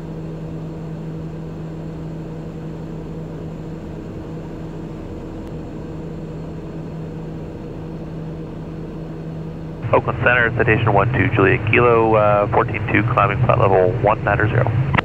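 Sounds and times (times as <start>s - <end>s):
aircraft cabin engine drone: 0.0s - 15.0s
low propeller hum: 0.0s - 15.0s.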